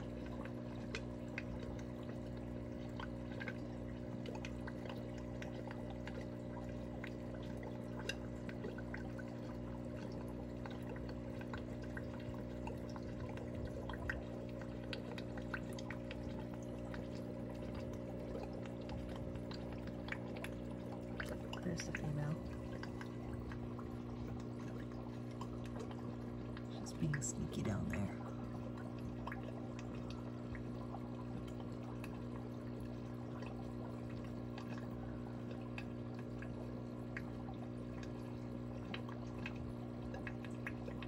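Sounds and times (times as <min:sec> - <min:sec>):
small drip-like pops: 0:00.0 - 0:27.3, 0:27.9 - 0:41.0
aquarium filter water bubbling: 0:00.0 - 0:41.0
steady low hum: 0:00.0 - 0:41.0.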